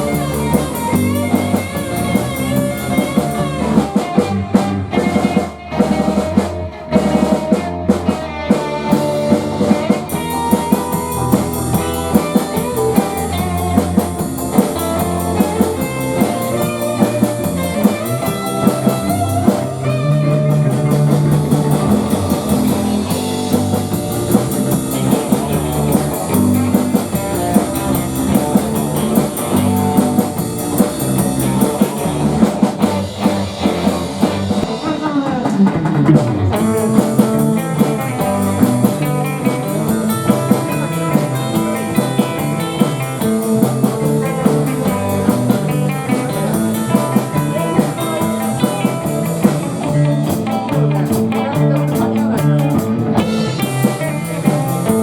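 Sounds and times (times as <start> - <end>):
bass guitar: 0.0 - 55.0
drum kit steady beat: 0.0 - 55.0
electric guitars playing: 0.0 - 55.0.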